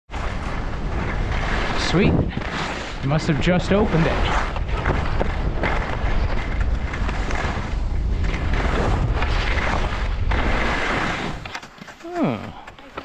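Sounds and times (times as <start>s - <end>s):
wind buffeting microphone: 0.1s - 11.5s
skis hissing over snow: 0.2s - 12.4s.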